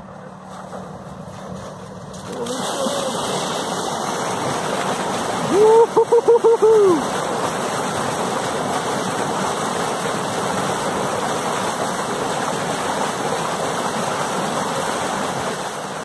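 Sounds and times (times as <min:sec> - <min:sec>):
water gushing into lake: 0:00.3 - 0:16.0.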